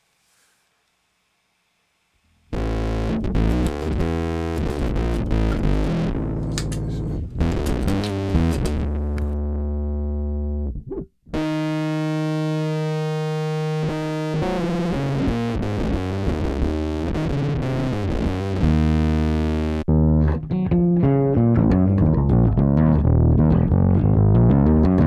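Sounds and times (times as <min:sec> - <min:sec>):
distorted electric bass notes: 0:02.5 - 0:25.0.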